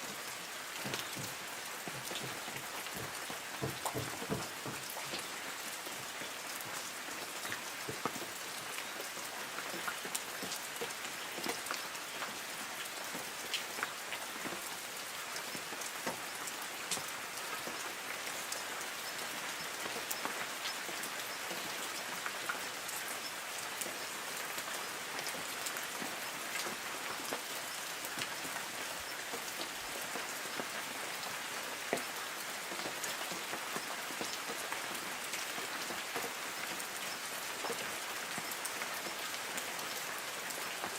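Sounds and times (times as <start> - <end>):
rain pattering on trees: 0.0 - 40.9.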